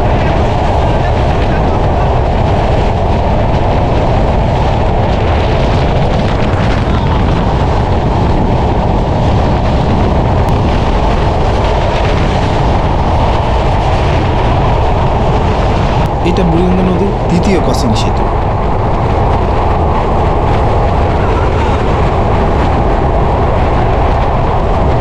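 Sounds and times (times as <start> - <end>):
wind buffeting microphone: 0.0 - 25.0
wind rushing: 0.0 - 25.0.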